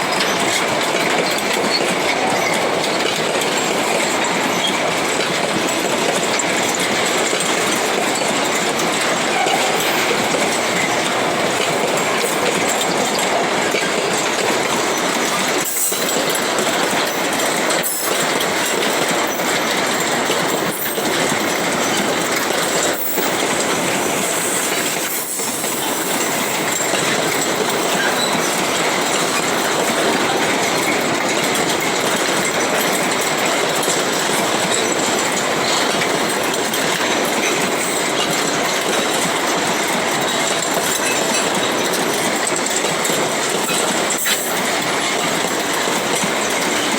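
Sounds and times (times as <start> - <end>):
train wheels clattering on rails: 0.0 - 46.9.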